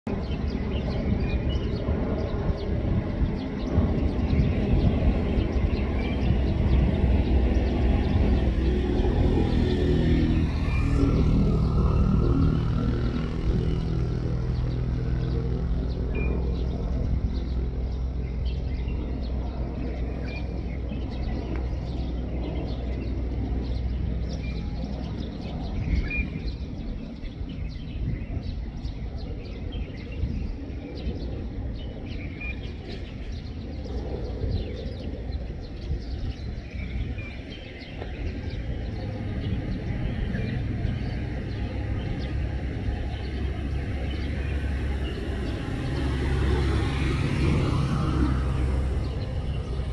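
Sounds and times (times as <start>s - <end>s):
distant propeller plane drone: 0.1s - 49.9s.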